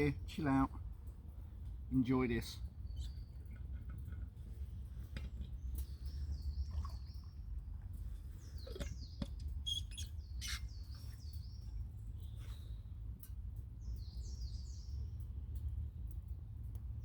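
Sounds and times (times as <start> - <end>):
low steady rumble: 0.0 - 17.0
birds singing: 1.7 - 16.0.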